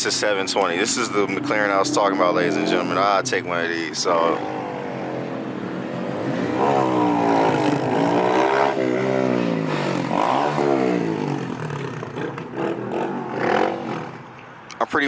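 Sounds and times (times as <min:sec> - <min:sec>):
engine revving: 0:00.2 - 0:14.4.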